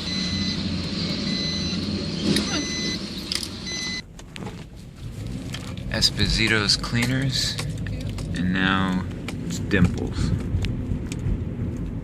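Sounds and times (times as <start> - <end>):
car engine hum: 0.0 - 12.0
road rumble: 0.0 - 12.0.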